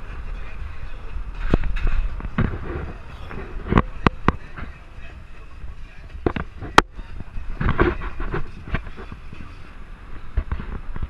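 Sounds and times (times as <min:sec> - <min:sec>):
road rumble: 0:00.0 - 0:11.0
wind buffeting: 0:00.0 - 0:11.0.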